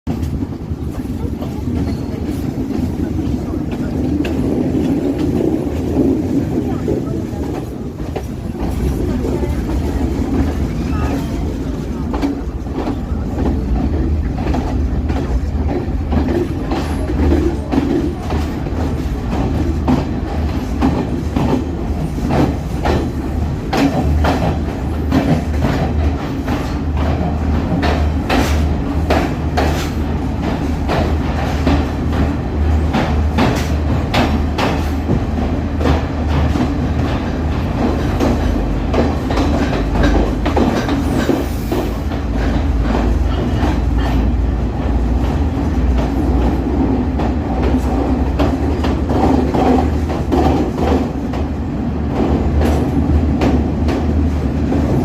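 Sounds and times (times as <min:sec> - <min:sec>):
train low rumble: 0:00.0 - 0:55.0
wheels clicking over rail joints: 0:00.1 - 0:55.0.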